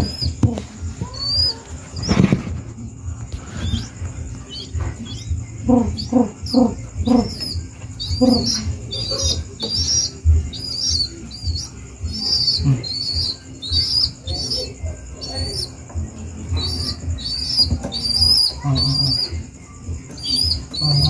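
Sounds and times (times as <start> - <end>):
low pulsed bird notes: 0.0 - 21.0
pigeon squab peeping: 0.0 - 21.0.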